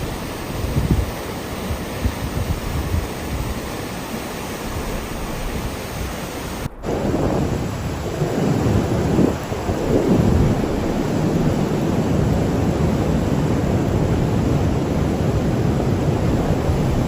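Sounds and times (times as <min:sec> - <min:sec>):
gusts buffeting microphone: 0:00.0 - 0:17.0
storm wind rushing: 0:00.0 - 0:17.0.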